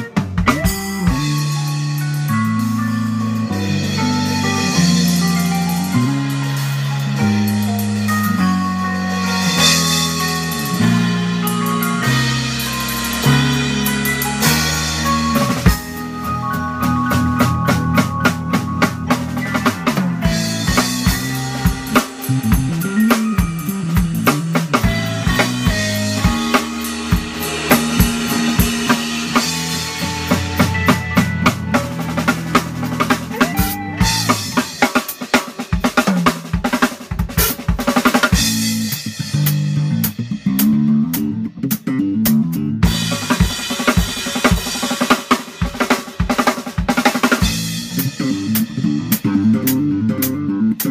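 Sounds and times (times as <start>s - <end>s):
low guitar notes: 0.0s - 35.3s, 38.4s - 44.2s, 47.4s - 50.9s
acoustic drum kit: 0.0s - 50.9s
digital piano chords: 0.0s - 50.9s
live band playing instrumental: 0.0s - 50.9s.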